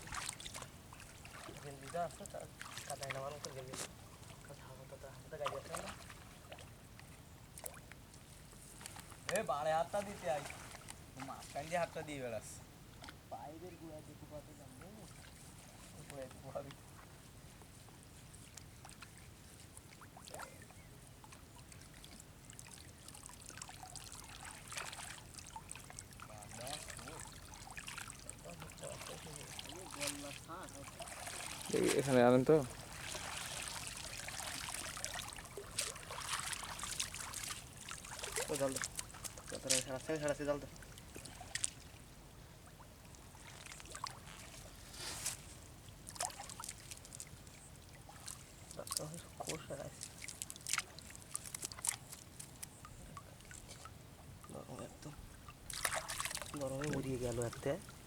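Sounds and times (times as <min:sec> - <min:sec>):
water trickling and splashing: 0:00.0 - 0:13.8, 0:14.6 - 0:58.0.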